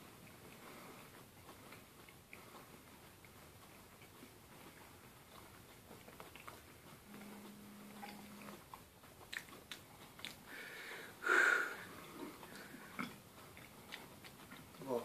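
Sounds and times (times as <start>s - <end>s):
chewing and wet mouth clicks: 0.0s - 10.8s, 11.7s - 15.0s
low steady hum: 0.0s - 15.0s.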